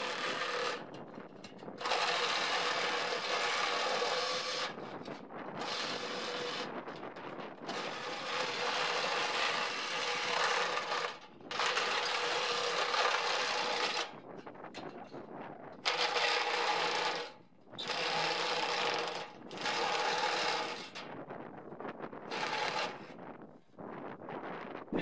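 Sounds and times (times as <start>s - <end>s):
power tool on metal gutter: 0.0s - 14.2s, 15.8s - 21.1s, 22.2s - 23.2s.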